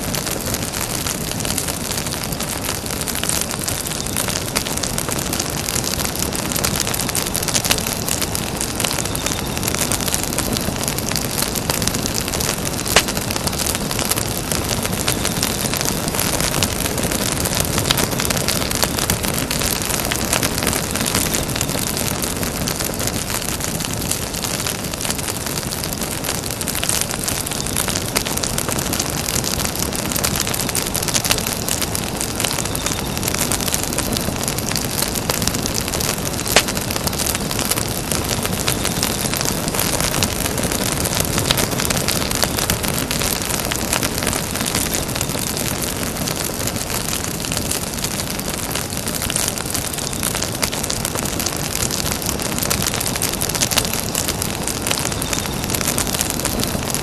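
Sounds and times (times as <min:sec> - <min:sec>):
sharp pop of fire: 0:00.0 - 0:50.9
campfire crackling: 0:00.0 - 0:57.0.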